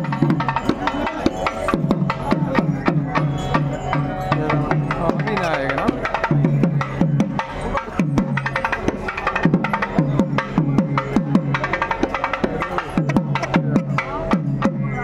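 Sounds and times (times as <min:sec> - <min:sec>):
drum-led percussion music: 0:00.0 - 0:15.0.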